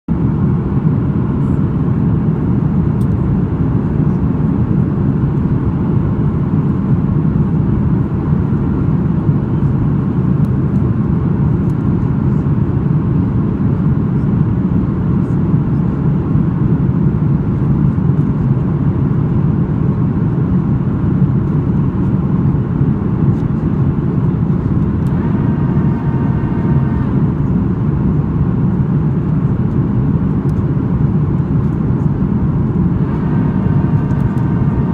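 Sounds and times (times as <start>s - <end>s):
airliner engine rumble in cabin: 0.1s - 34.9s.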